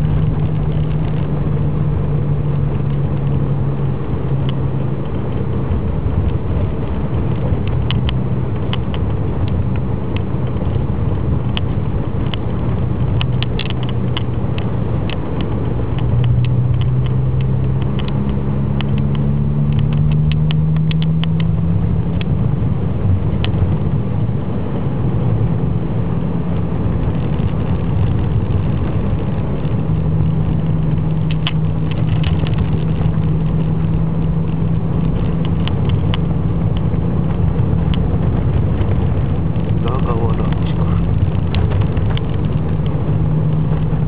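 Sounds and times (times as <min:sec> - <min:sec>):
light ticks and crackles: 0:00.0 - 0:01.5, 0:02.5 - 0:23.9, 0:26.8 - 0:44.0
car engine and road noise: 0:00.0 - 0:44.0.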